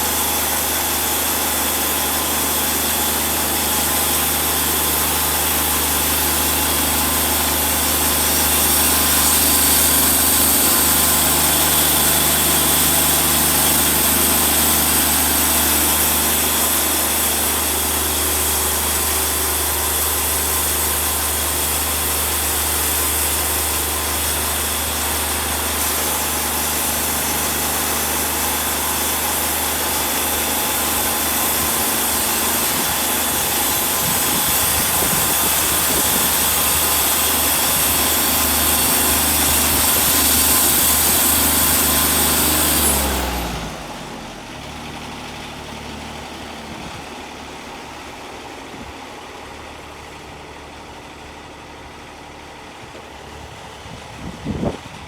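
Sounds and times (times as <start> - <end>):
band blade sawing log: 0.0 - 53.2
sawmill engine running: 0.0 - 55.0.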